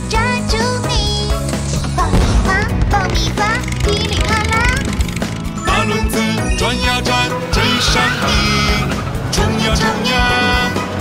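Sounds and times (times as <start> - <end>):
upbeat cartoon music: 0.0 - 11.0.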